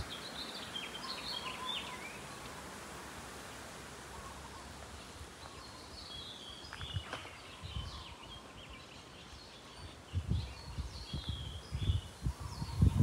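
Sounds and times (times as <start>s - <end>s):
birds chirping: 0.0s - 2.8s, 3.4s - 13.0s
steady outdoor hiss: 0.0s - 13.0s.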